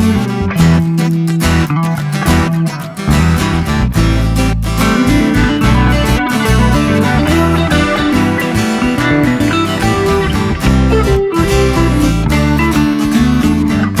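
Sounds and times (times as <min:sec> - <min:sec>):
guitar-led music with bass: 0:00.0 - 0:14.0.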